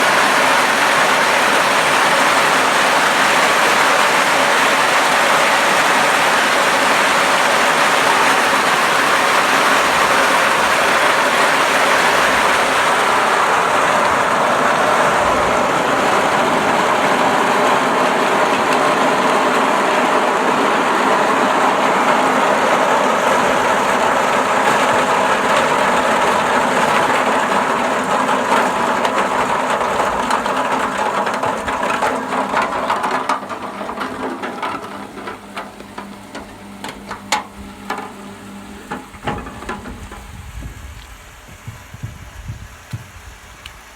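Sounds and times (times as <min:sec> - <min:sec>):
machine running with dense rattling: 0:00.0 - 0:43.9.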